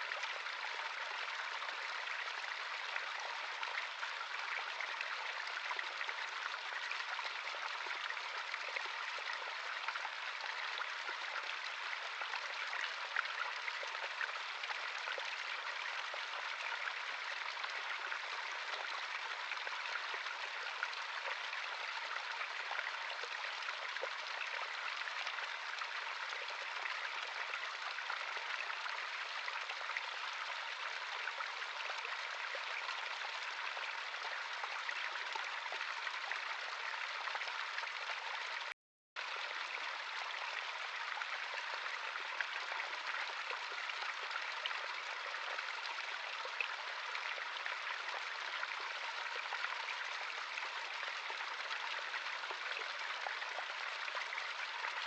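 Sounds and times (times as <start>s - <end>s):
stream of running water: 0.0s - 55.0s.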